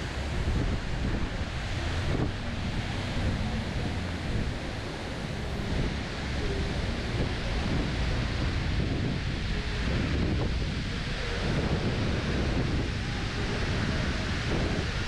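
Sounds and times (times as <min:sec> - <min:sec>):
water pouring down a fountain: 0:00.0 - 0:15.0
wind buffeting the microphone: 0:00.0 - 0:15.0.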